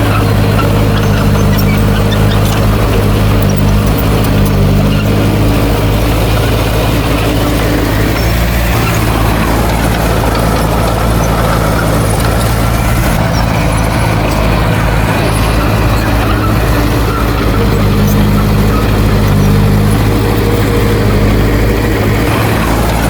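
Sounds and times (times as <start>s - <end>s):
heavy machine diesel engine running: 0.0s - 23.0s.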